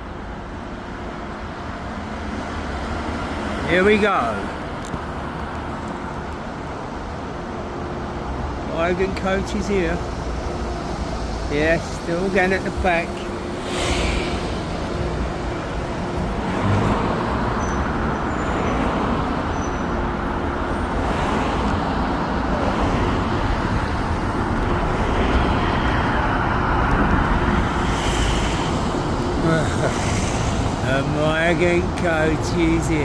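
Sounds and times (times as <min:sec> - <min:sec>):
tyres on the road: 0:00.0 - 0:33.0.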